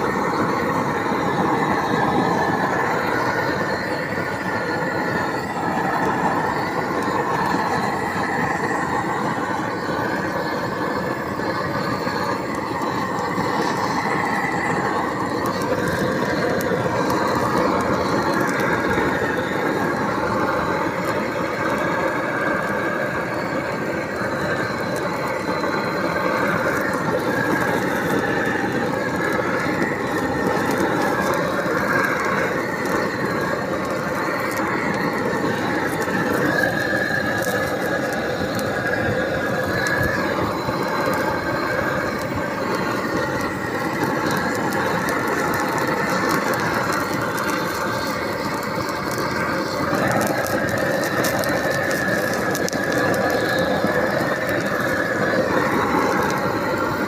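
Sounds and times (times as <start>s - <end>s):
high squealing whine: 0.0s - 57.0s
machine noise: 0.0s - 57.0s.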